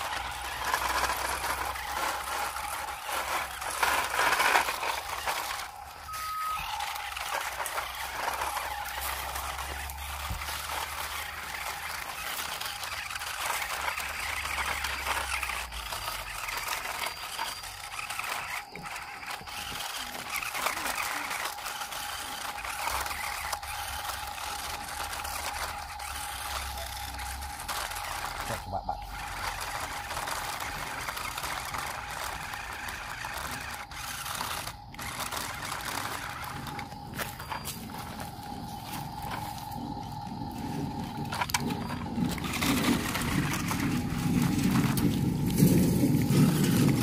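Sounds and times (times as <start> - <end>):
toy electric motor whirring: 0.0 - 47.0
tyres crackling over dry leaves: 0.0 - 47.0.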